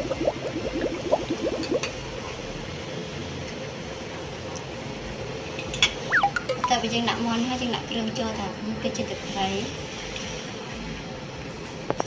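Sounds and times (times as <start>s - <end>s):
water boiling in a pot: 0.0s - 6.1s, 6.7s - 12.0s.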